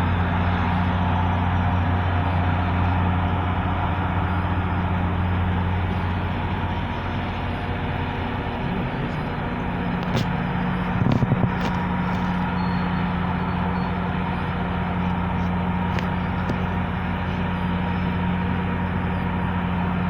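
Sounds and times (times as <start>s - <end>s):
diesel locomotive humming: 0.0s - 20.0s.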